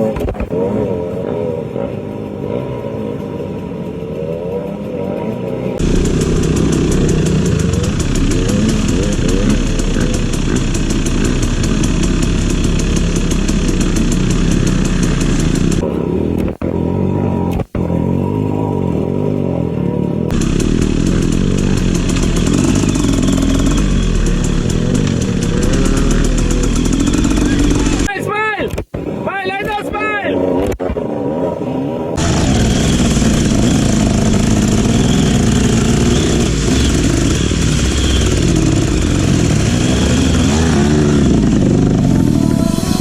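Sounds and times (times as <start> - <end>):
motorcycle engine running: 0.0 - 28.1, 30.4 - 43.0.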